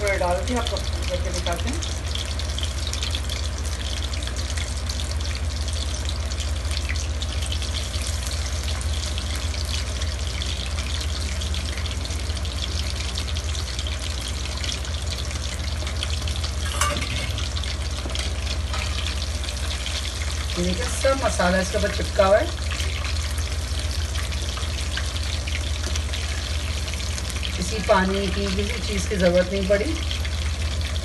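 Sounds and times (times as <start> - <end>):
fish deep-frying sizzle: 0.0 - 31.0
low hum: 0.0 - 31.0.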